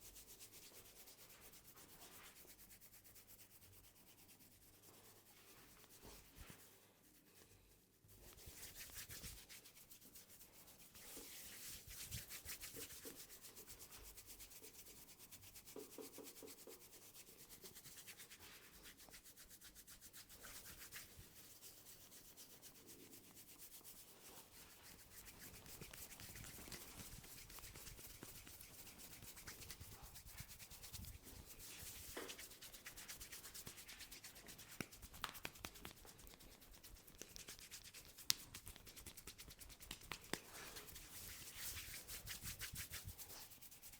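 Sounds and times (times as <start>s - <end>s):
hands rubbing hair and scalp: 0.1s - 43.9s.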